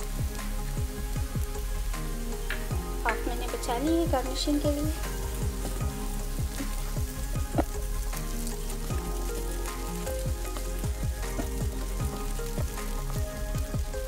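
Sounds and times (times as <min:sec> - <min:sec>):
ghee sizzling softly: 0:00.0 - 0:14.0.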